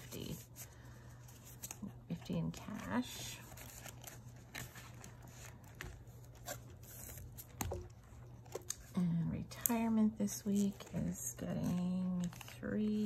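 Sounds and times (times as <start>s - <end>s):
paper rustling and crinkling: 0.0s - 9.0s, 9.6s - 13.0s.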